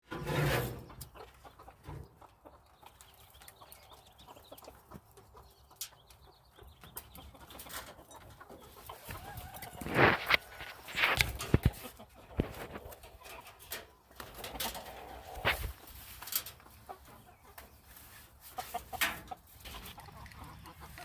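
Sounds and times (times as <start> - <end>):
chicken clucking: 0.1 - 21.0.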